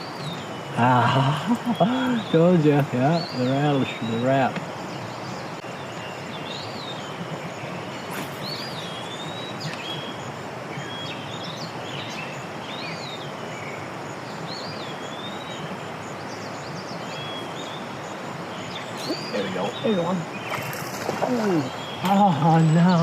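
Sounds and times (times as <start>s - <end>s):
flowing creek water: 0.0s - 23.0s.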